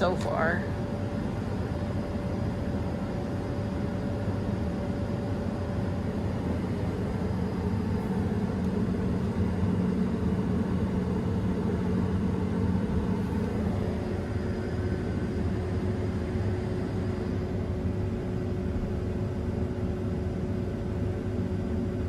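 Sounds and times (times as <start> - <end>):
combine harvester engine drone: 0.0 - 22.0.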